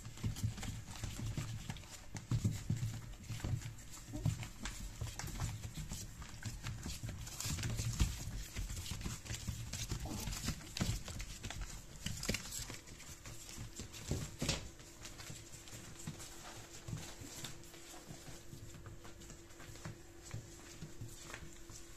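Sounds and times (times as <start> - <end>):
puppies scrabbling on newspaper: 0.0 - 21.9
paper rustling and crinkling: 0.2 - 21.9.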